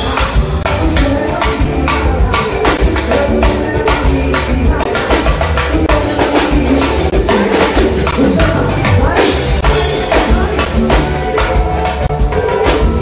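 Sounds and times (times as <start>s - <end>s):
bass line: 0.0s - 13.0s
live band playing: 0.0s - 13.0s.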